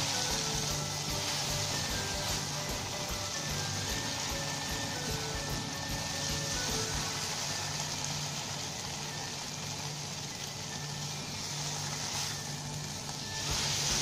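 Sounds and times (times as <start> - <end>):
spatula stirring: 0.0 - 8.6, 11.4 - 14.0
potatoes sizzling in a pan: 0.0 - 14.0.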